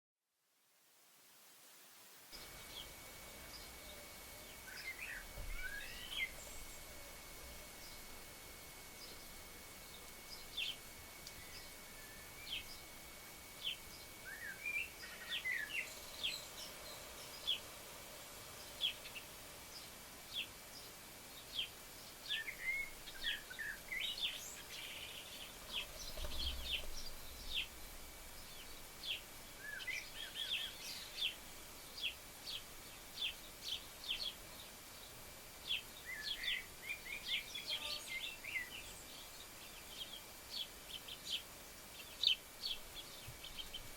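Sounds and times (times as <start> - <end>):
garden birds chirping: 2.3 - 43.9
birds twittering: 2.4 - 17.7, 18.6 - 43.9.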